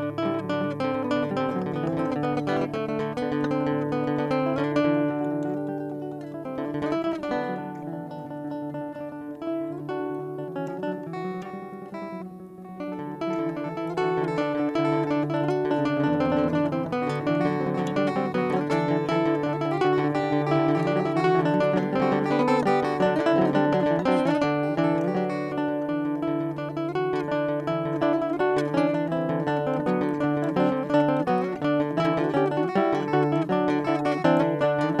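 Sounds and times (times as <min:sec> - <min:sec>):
acoustic guitar plucked tune: 0:00.0 - 0:35.0.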